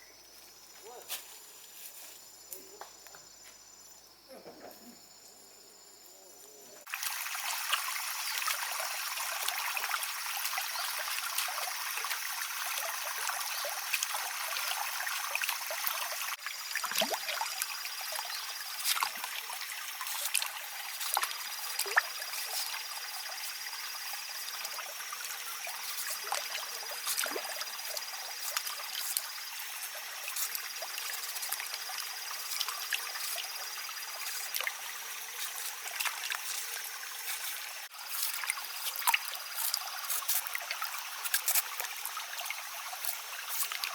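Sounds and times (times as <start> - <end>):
water trickling: 6.9 - 43.9.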